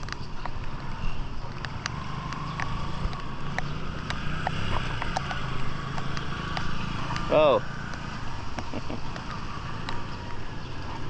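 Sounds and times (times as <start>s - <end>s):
faint engine drone: 0.0s - 11.0s.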